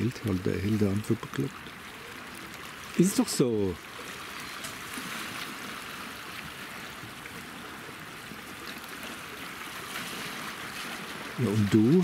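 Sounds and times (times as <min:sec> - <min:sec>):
waves lapping among rocks: 0:00.0 - 0:12.0.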